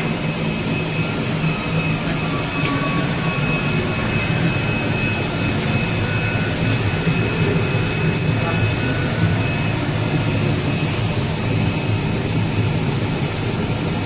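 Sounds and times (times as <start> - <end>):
blower hum with high whine: 0.0 - 14.0.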